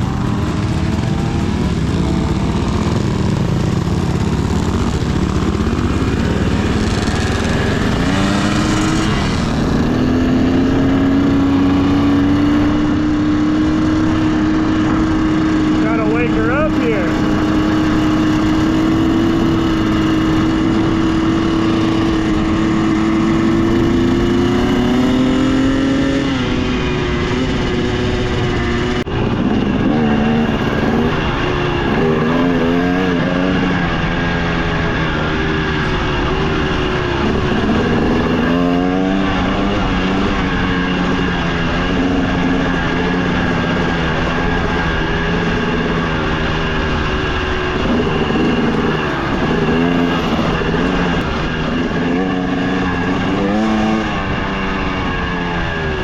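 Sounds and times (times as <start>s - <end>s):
two-stroke dirt bike engine revving: 0.0s - 56.0s.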